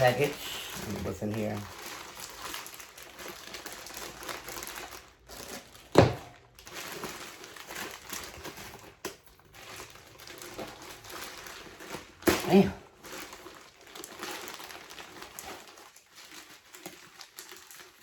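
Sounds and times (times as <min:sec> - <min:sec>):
packaging rustling and crinkling: 0:00.0 - 0:18.0.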